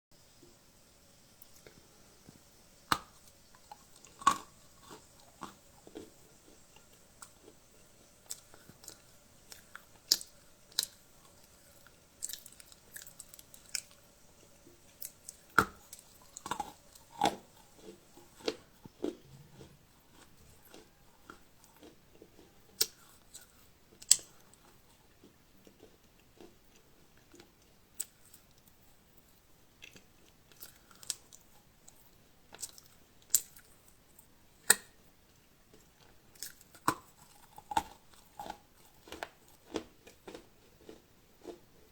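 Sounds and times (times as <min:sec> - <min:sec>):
chewing and crunching: 0:01.4 - 0:41.9.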